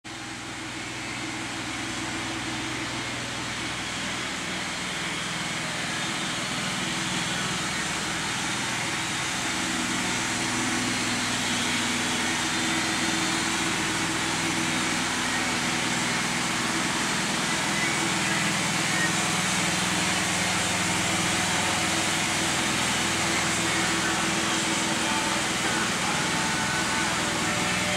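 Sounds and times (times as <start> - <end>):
machinery whirring and hissing: 0.1 - 27.9.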